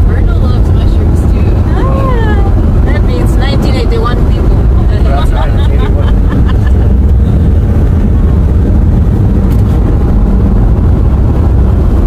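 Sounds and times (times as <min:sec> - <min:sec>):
car driving on wet road: 0:00.0 - 0:12.0.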